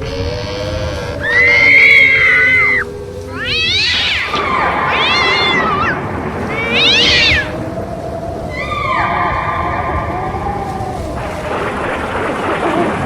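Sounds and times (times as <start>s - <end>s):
wailing animal cries: 0.0s - 11.1s
low steady drone: 0.0s - 13.0s.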